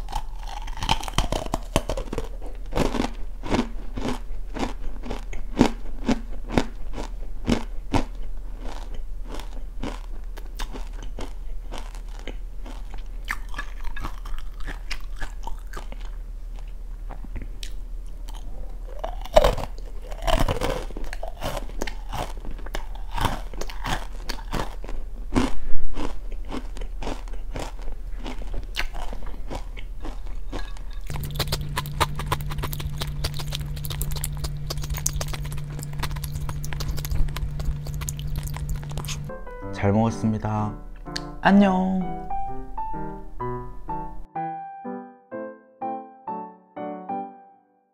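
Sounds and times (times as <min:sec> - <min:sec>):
crunching crisp snack: 0:00.0 - 0:39.3
steady low hum: 0:00.0 - 0:44.3.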